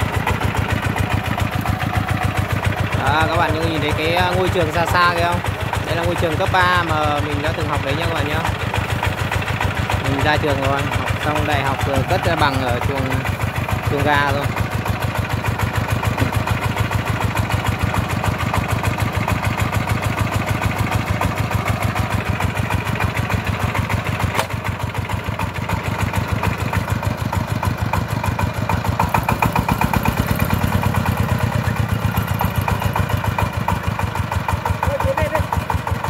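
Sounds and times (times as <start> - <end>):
diesel engine idling with rapid thump: 0.0 - 36.0.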